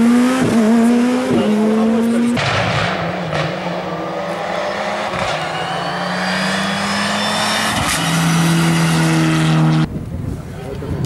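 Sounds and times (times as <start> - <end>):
rally car engine accelerating: 0.0 - 9.9.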